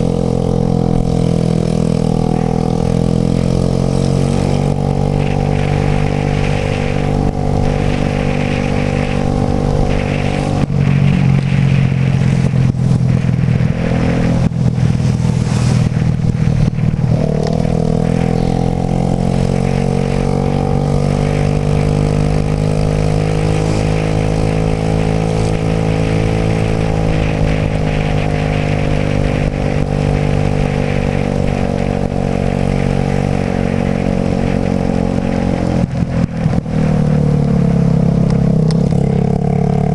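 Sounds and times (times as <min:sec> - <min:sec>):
scooter engine running: 0:00.0 - 0:39.9
steady rushing noise: 0:00.0 - 0:39.9.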